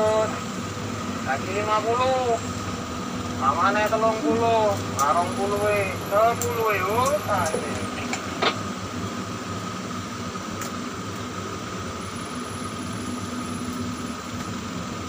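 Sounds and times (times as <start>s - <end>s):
mechanical hum with whine: 0.0s - 15.0s.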